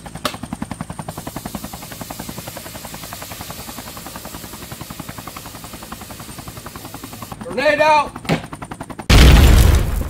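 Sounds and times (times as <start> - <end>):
helicopter rotor beating: 0.0 - 9.8.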